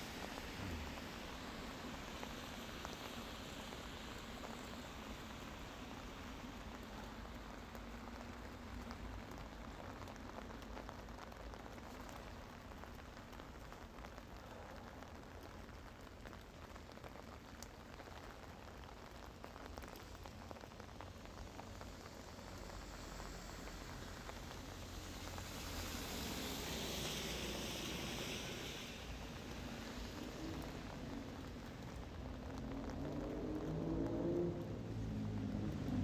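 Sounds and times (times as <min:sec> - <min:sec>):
raindrops pattering: 0:00.0 - 0:36.0
steady rain: 0:00.0 - 0:36.0.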